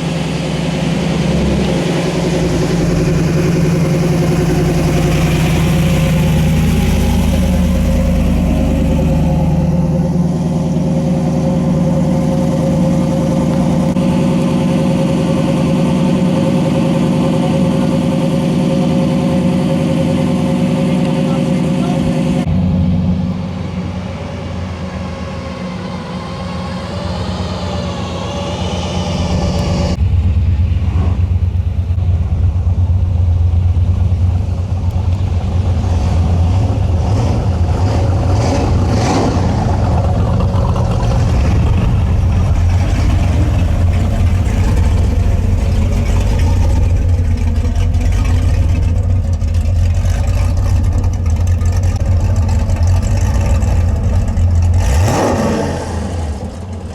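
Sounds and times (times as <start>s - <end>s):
car engines running: 0.0s - 56.9s
deep exhaust rumble: 0.0s - 56.9s.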